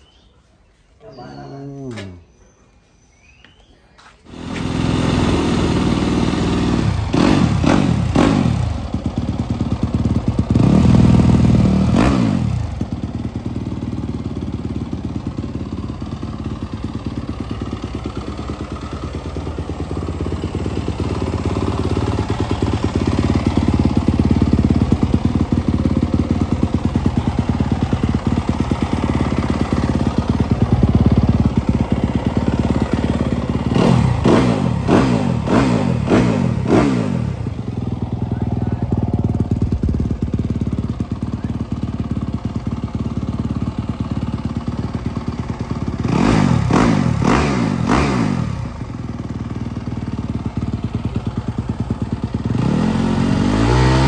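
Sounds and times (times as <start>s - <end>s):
motorcycle engine revving and idling: 4.2s - 54.0s.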